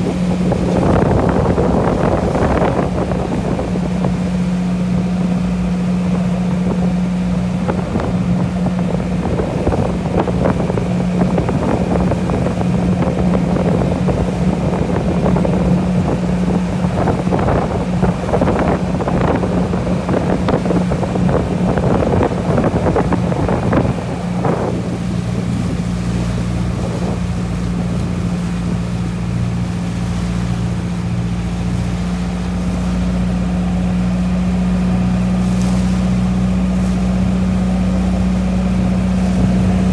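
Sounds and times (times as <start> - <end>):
ferry engine hum: 0.0 - 39.9
rushing water: 0.0 - 39.9
wind on microphone: 0.0 - 39.9.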